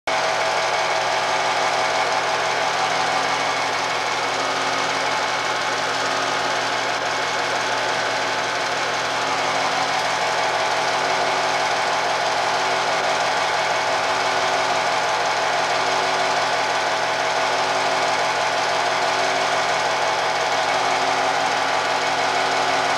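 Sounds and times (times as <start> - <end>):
film projector running: 0.1 - 22.9.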